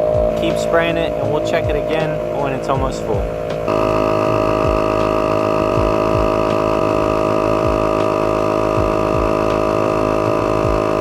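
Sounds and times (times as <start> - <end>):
tire inflator whining: 0.0 - 11.0.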